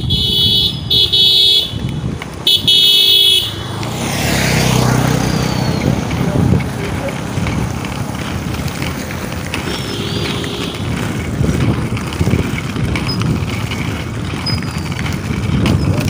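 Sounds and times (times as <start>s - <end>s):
skate wheels rolling on asphalt: 0.0s - 16.0s
wind buffeting microphone: 0.0s - 16.0s.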